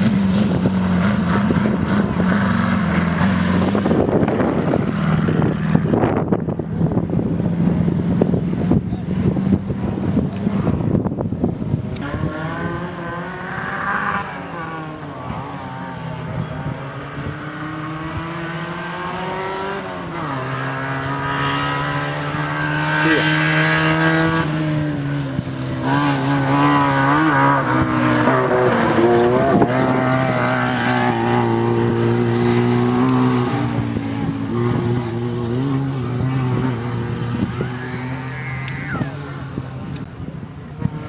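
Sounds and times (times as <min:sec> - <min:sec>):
gravel and tyre noise: 0:00.0 - 0:41.0.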